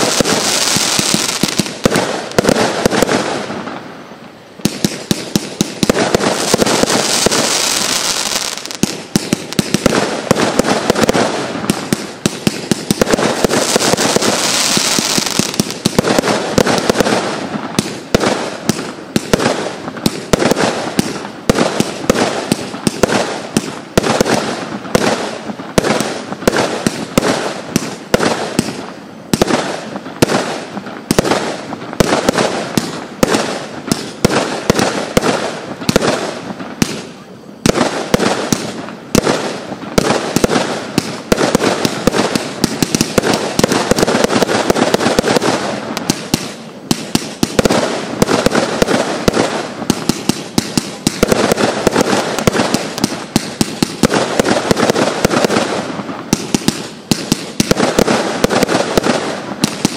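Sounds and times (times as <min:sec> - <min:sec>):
firework battery firing: 0:00.0 - 0:59.9.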